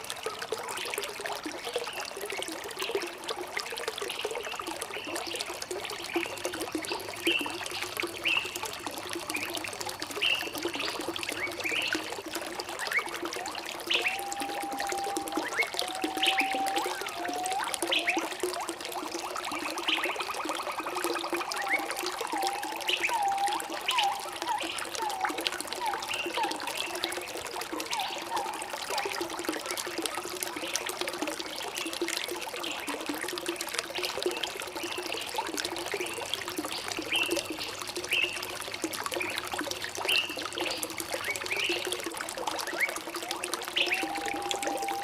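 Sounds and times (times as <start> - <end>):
bubbling plinks: 0.0 - 45.0
stream water trickling: 0.0 - 45.0.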